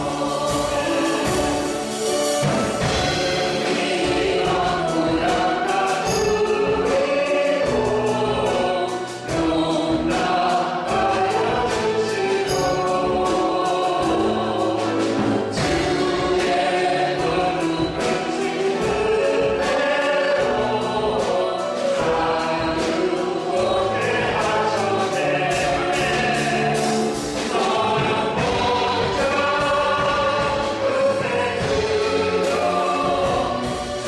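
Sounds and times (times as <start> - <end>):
group singing worship song: 0.0 - 34.0
instrumental accompaniment with beat: 0.0 - 34.0.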